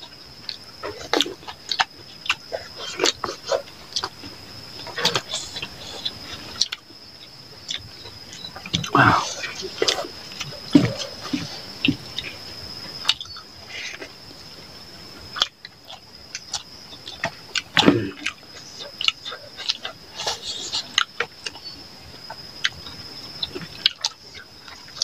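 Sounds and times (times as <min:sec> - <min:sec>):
people chewing and lip smacking: 0:00.0 - 0:25.0.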